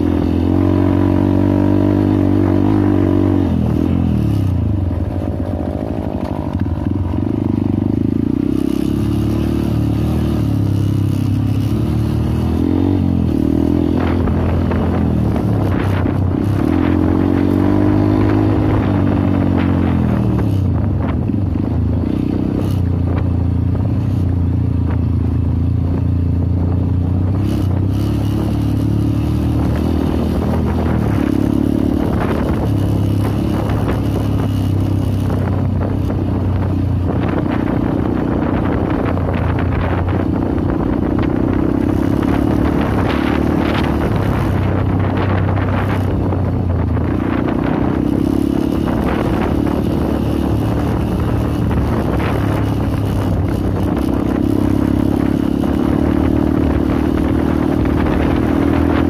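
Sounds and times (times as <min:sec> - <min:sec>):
motorcycle engine revving: 0:00.0 - 0:59.0
motorcycle rattling over rough ground: 0:00.0 - 0:59.0.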